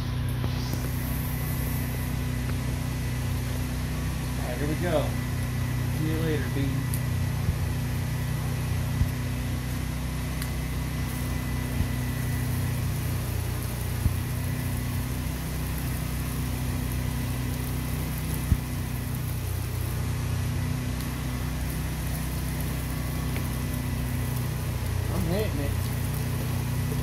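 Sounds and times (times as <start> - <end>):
pressure washer engine running: 0.0 - 27.0
water spraying: 0.0 - 27.0.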